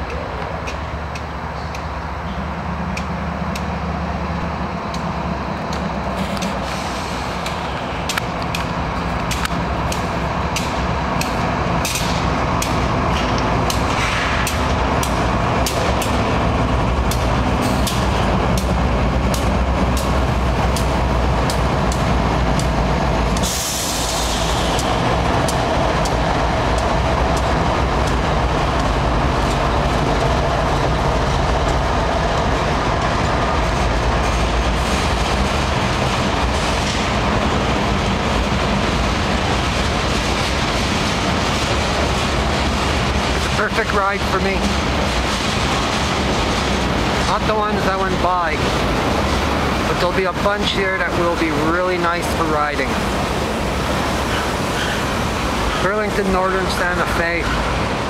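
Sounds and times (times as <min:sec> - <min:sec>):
diesel locomotives rumbling: 0:00.0 - 0:58.0
train wheels rumbling on rail: 0:00.0 - 0:58.0.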